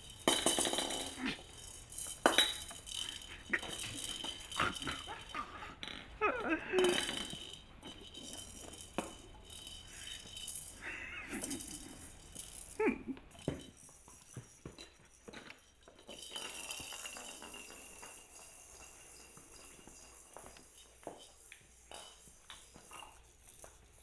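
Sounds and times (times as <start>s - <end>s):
plastic maraca rattling: 0.0s - 24.0s.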